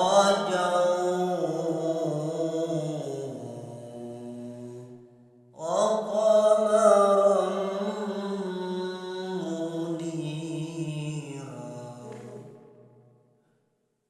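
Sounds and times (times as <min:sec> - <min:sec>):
man chanting melodically: 0:00.0 - 0:05.0, 0:05.6 - 0:12.6.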